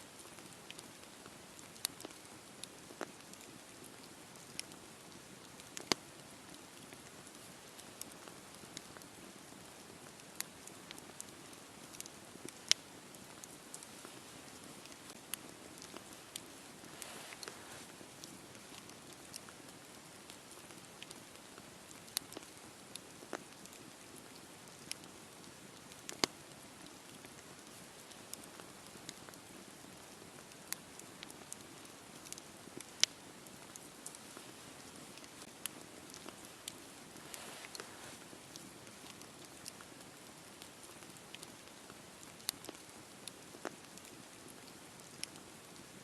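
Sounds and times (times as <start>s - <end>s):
campfire crackling and popping: 0.1s - 46.0s.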